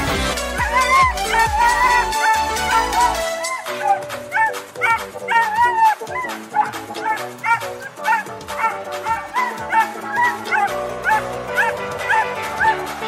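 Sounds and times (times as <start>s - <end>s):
background music: 0.0s - 13.0s
dog yipping: 0.5s - 12.8s.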